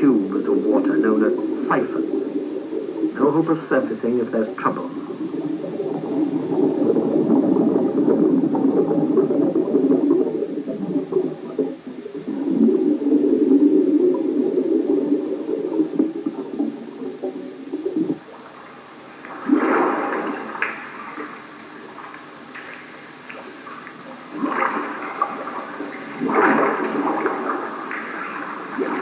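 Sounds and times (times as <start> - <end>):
underwater air bubbling: 0.0 - 29.0.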